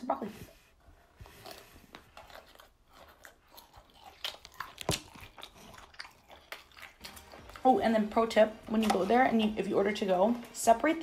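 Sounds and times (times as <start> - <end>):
chewing crisp broccoli: 0.9 - 10.6.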